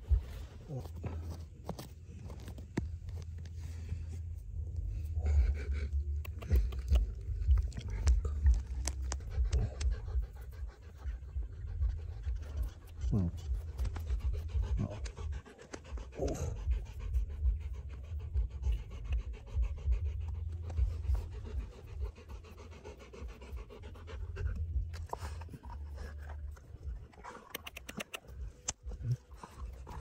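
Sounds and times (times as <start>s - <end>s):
low rumble: 0.0s - 27.6s
dog panting: 4.7s - 30.0s.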